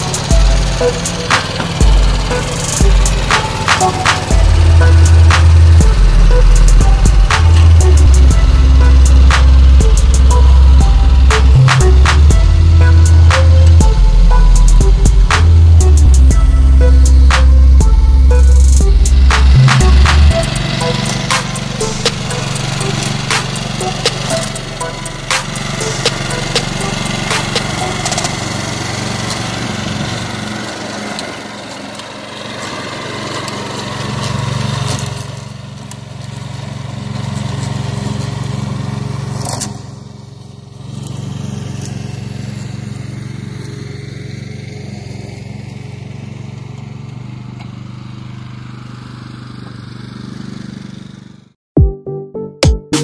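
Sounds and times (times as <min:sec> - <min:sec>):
petrol engine running: 0:00.0 - 0:51.6.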